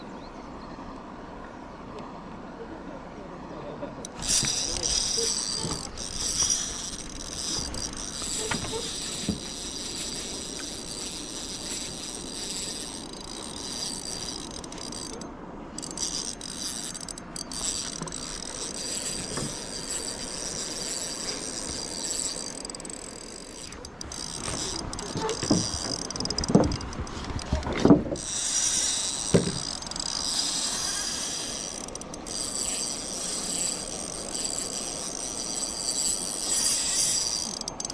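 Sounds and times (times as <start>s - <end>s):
fishing reel clicking and ratcheting: 4.0s - 37.9s.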